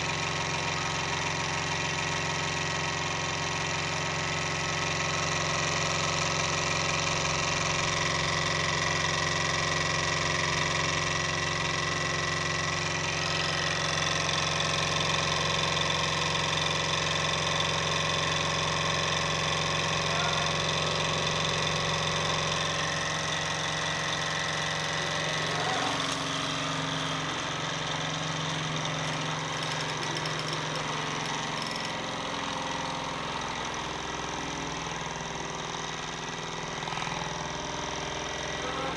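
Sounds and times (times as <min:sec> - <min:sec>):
model stirling engine whirring: 0:00.0 - 0:38.9.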